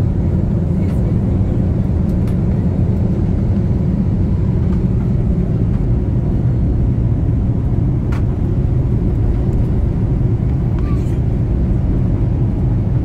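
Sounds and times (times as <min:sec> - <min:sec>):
cabin air noise: 0:00.0 - 0:13.0
jet engine rumble in cabin: 0:00.0 - 0:13.0.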